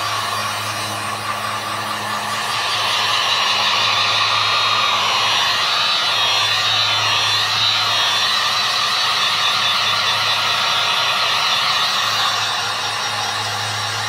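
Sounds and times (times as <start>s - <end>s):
heat gun fan hum: 0.0s - 14.0s
rush of air: 0.0s - 14.0s.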